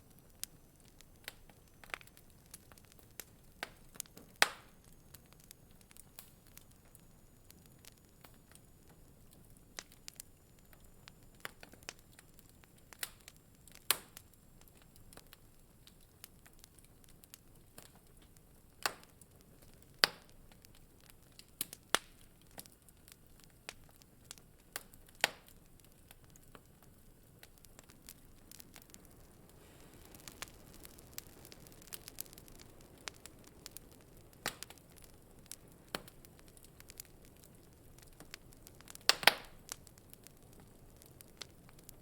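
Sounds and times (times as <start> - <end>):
faint steady hiss: 0.0 - 42.0
wood fire crackling: 0.0 - 42.0.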